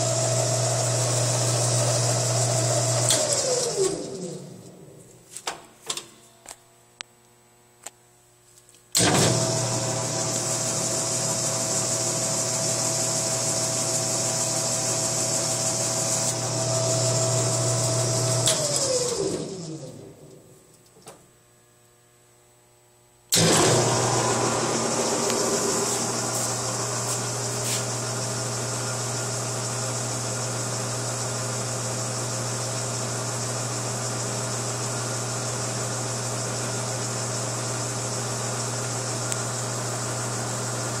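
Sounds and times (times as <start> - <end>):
dough mixer motor humming: 0.0 - 4.9, 9.0 - 20.3, 23.4 - 41.0.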